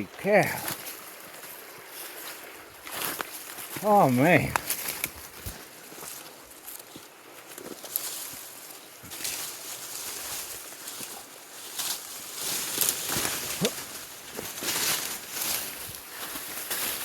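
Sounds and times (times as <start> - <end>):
leaves and branches crunching underfoot: 0.4 - 17.0.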